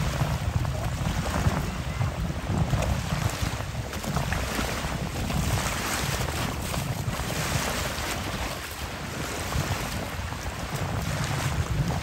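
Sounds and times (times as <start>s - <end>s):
small waves washing: 0.0s - 12.0s
wind buffeting microphone: 0.0s - 12.0s.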